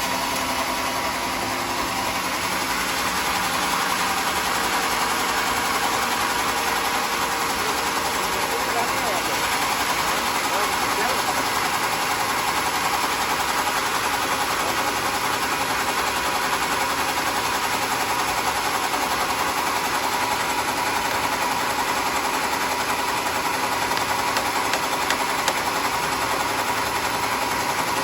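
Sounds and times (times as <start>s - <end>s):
sawmill machinery humming: 0.0s - 28.0s.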